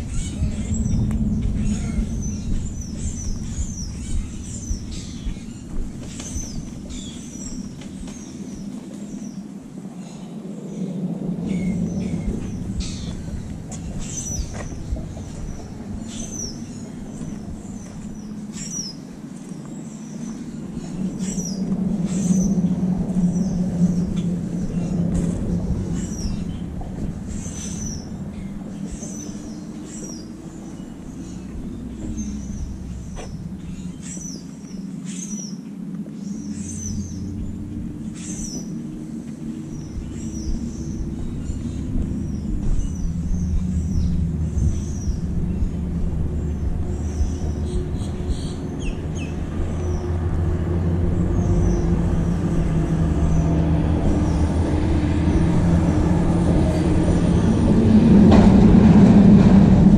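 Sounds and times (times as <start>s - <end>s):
birds chirping: 0.0s - 59.9s
low rumble: 0.0s - 59.9s.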